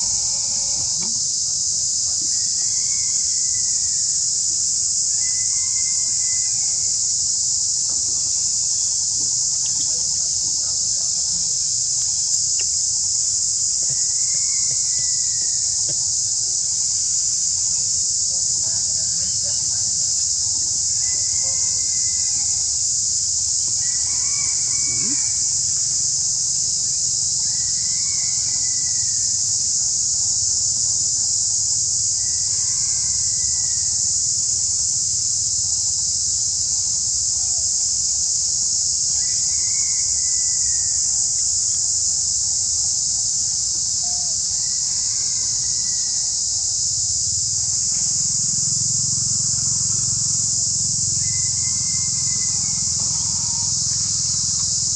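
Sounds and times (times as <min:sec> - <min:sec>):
high-pitched insect drone: 0:00.0 - 0:54.9.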